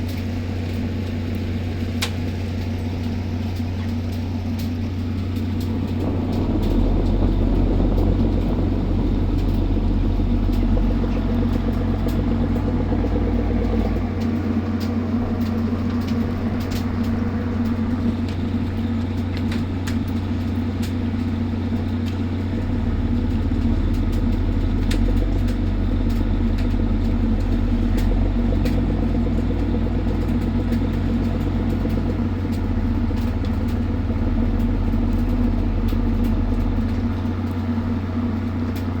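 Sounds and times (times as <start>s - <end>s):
boat diesel engine droning: 0.0s - 39.0s.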